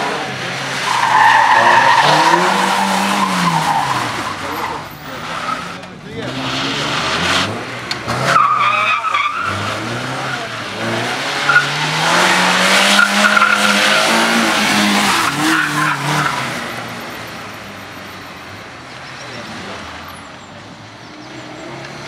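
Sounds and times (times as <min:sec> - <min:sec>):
car engine revving: 0:00.0 - 0:22.0
tyres squealing: 0:00.7 - 0:21.8.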